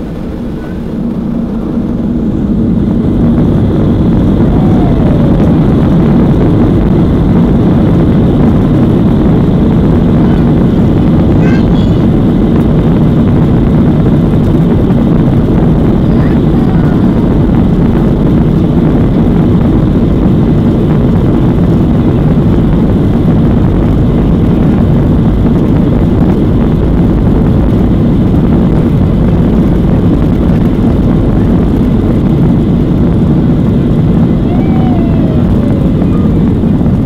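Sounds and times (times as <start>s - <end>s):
jet engines at take-off: 0.0s - 37.0s.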